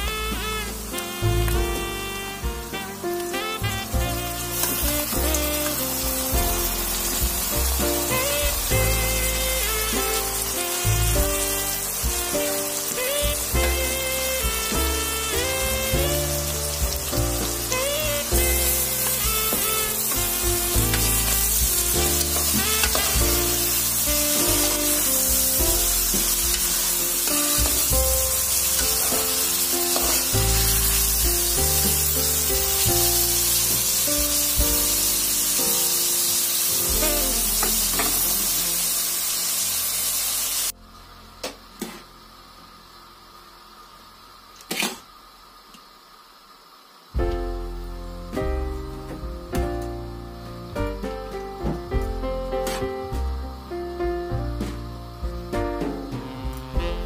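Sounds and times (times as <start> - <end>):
background music: 0.0 - 39.9, 47.2 - 57.0
vegetables sizzling in a pot: 0.0 - 57.0.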